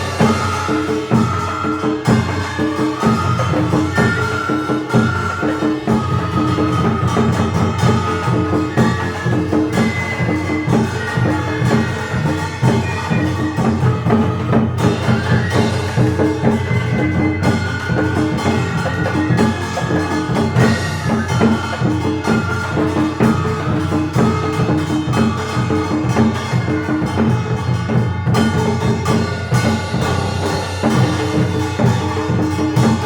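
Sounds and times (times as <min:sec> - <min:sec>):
drums and percussion beat: 0:00.0 - 0:33.0.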